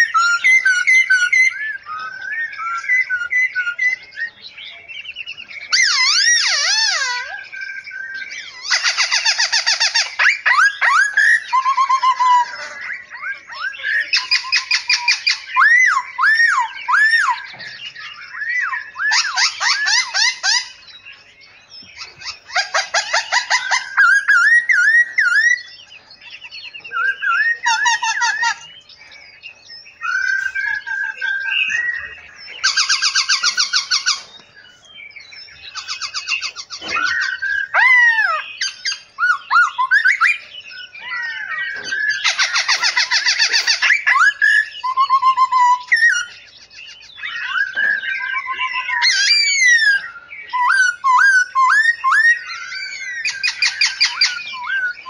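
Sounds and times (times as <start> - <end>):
loud fast rattling bird trills: 0.0 - 21.4, 22.0 - 34.8, 35.4 - 55.0
songbirds calling and singing: 0.0 - 55.0.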